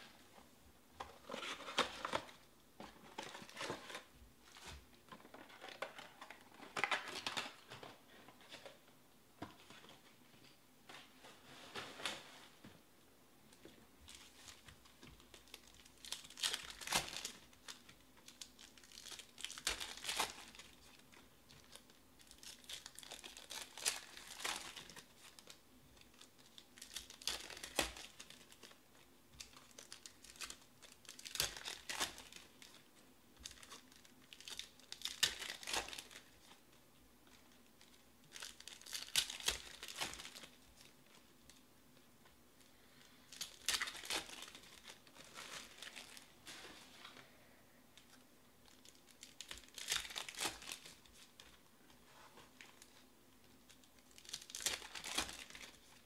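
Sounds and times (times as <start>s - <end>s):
plastic wrappers crinkling and ripping: 1.0s - 2.4s, 3.0s - 8.7s, 14.1s - 41.6s, 42.6s - 47.3s, 48.0s - 51.7s, 52.3s - 56.0s.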